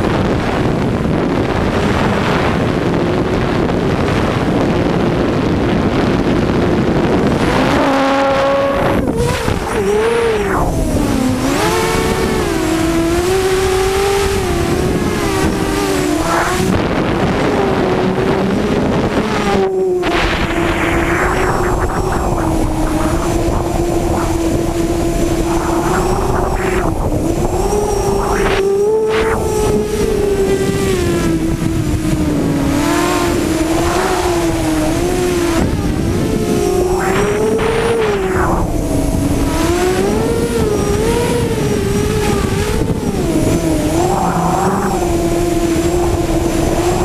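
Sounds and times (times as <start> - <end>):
wind rushing over camera: 0.0 - 47.0
drone motors whining: 6.6 - 47.0.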